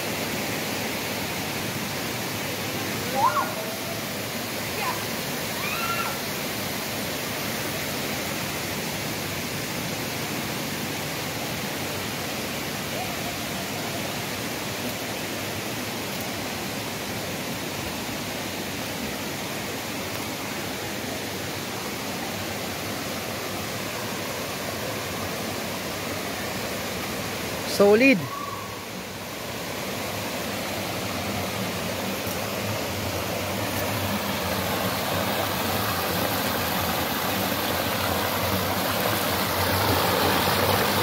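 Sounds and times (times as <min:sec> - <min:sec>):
water running over rocks: 0:00.0 - 0:41.0.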